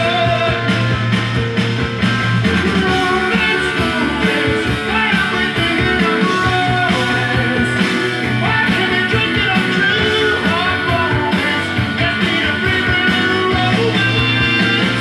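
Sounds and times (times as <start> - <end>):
song with guitar and singing: 0.0 - 15.0.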